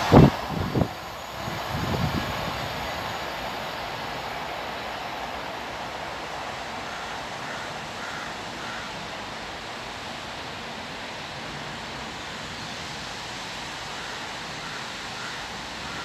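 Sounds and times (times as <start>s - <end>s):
passenger train rushing: 0.0s - 16.0s.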